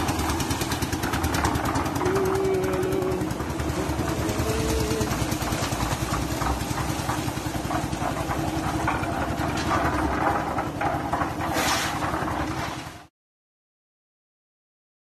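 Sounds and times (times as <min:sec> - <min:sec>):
concrete mixer engine running: 0:00.0 - 0:13.1
rattling and scraping: 0:00.0 - 0:13.1.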